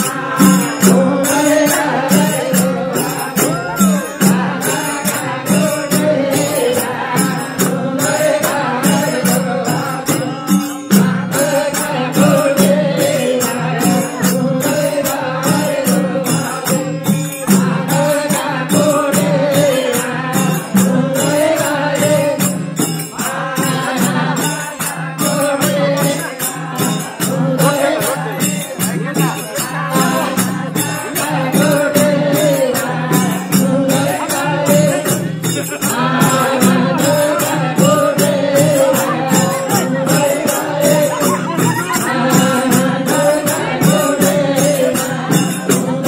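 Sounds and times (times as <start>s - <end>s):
group singing: 0.0s - 46.0s
hand drum beat: 0.0s - 46.0s
metallic jingling percussion: 0.0s - 46.0s.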